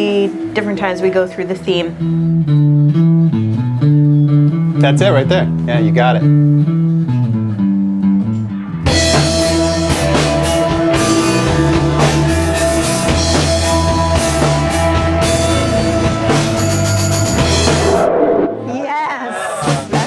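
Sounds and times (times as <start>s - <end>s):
bass guitar line: 0.8s - 20.0s
rock band playing: 2.0s - 18.4s.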